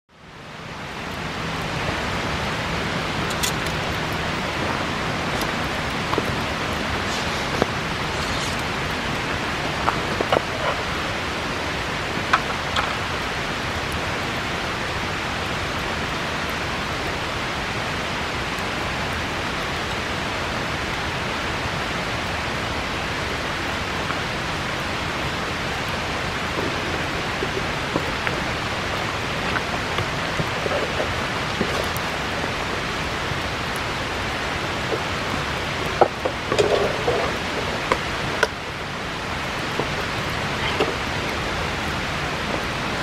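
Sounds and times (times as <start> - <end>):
river rushing: 0.1 - 43.0
bonfire crackling and popping: 0.4 - 43.0.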